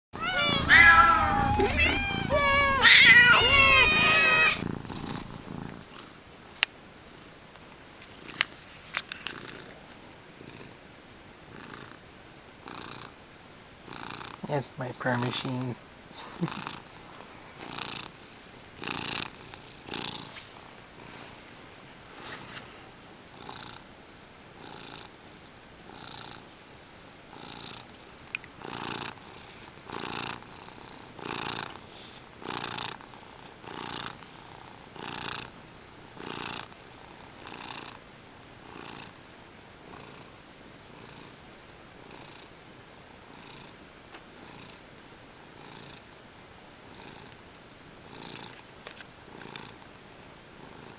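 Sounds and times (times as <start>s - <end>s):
cat purring: 0.2s - 6.2s, 9.2s - 12.0s, 12.6s - 13.2s, 13.8s - 23.9s, 24.5s - 42.6s, 43.2s - 46.2s, 46.8s - 47.4s, 48.0s - 48.6s, 49.2s - 50.9s.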